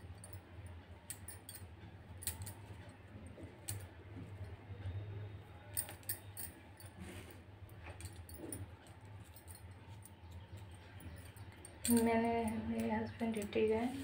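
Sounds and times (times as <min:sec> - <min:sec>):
bangles clinking: 0:00.0 - 0:14.0.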